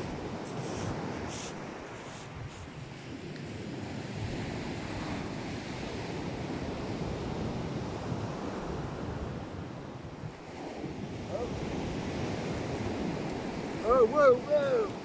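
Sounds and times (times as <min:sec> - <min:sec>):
sea surf washing onto shore: 0:00.0 - 0:15.0
wind buffeting microphone: 0:00.0 - 0:15.0.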